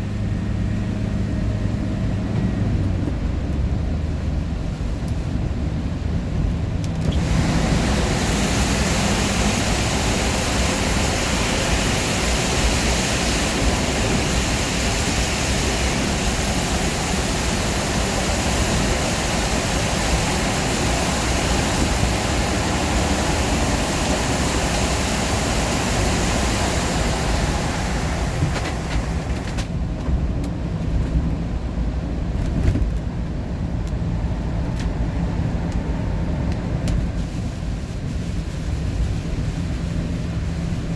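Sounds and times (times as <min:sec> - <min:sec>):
road rumble: 0:00.0 - 0:40.9
wind or tyre hiss: 0:00.0 - 0:40.9.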